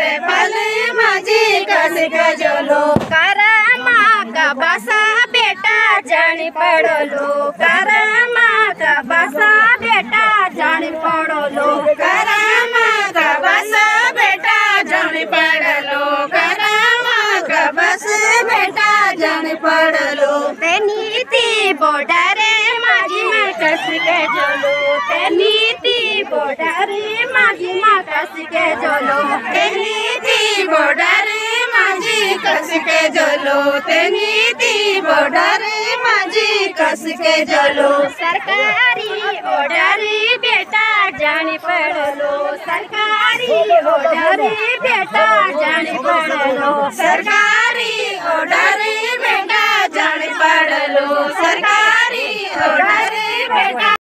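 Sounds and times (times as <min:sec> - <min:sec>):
women singing folk song in chorus: 0:00.0 - 0:54.0.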